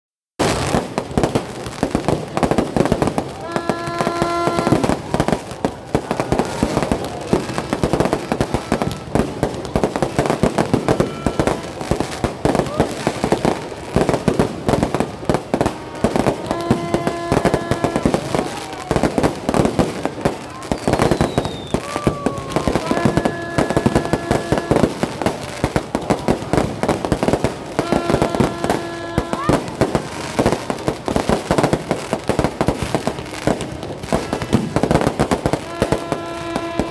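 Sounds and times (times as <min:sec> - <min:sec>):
fireworks bangs and pops: 0:00.4 - 0:36.9.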